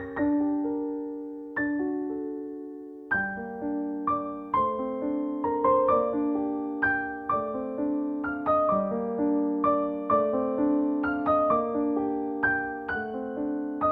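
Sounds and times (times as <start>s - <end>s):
gentle solo piano melody: 0.0s - 13.9s.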